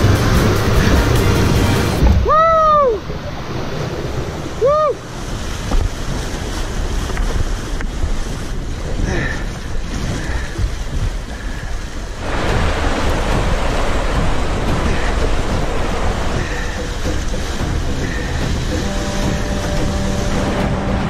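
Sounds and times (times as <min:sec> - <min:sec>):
rushing whitewater creek: 0:00.0 - 0:21.0.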